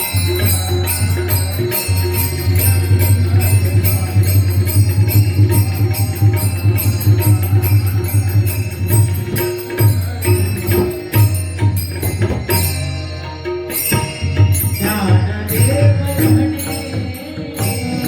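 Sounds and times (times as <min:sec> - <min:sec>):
jingling percussion: 0:00.0 - 0:18.0.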